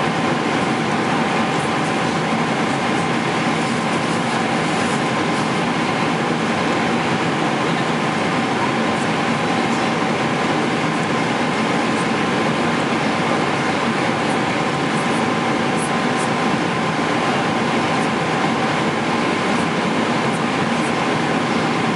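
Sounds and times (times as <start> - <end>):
airplane cabin engine rush: 0.0 - 21.9.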